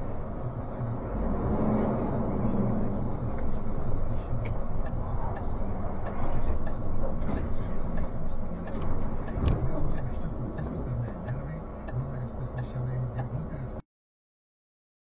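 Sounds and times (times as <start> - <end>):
car rumble from inside: 0.0 - 13.8
regular ticking: 0.0 - 13.8.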